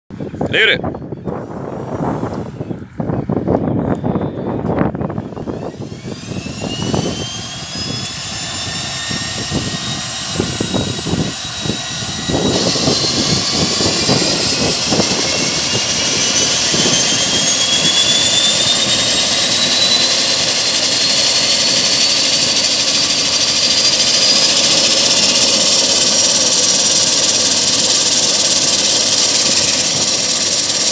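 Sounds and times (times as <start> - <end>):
turboprop engine starting: 1.3 - 3.4, 4.4 - 30.9.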